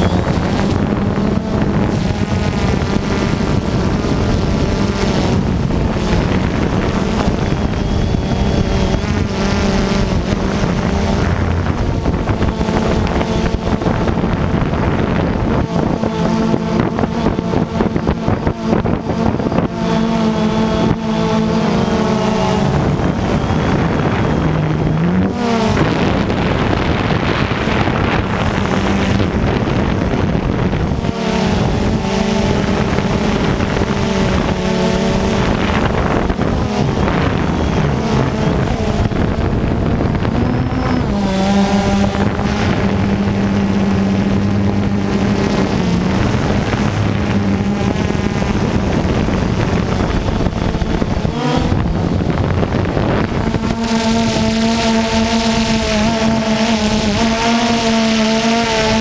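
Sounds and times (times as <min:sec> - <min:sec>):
low droning hum: 0:00.0 - 0:59.0.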